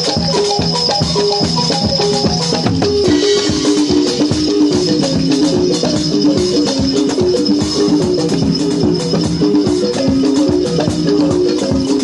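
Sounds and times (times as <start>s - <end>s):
background music with percussion beat: 0.0s - 12.0s.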